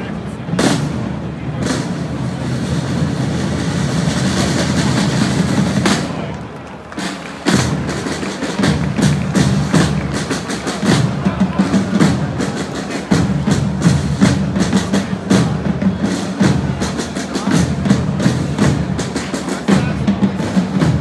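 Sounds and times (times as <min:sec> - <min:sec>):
parade drums beating: 0:00.0 - 0:21.0.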